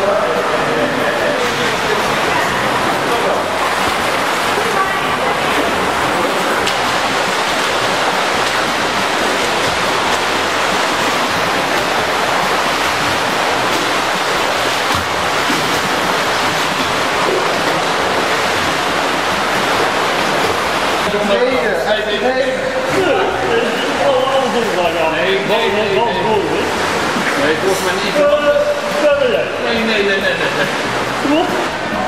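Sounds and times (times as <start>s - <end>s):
swimmers splashing water: 0.0s - 32.0s.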